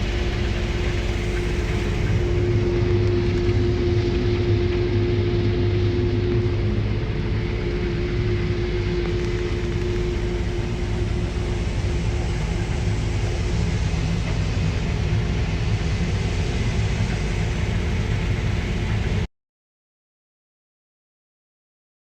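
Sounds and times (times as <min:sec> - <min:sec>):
faint steady whine: 0:00.0 - 0:19.3
farm machinery engine drone: 0:00.0 - 0:19.3.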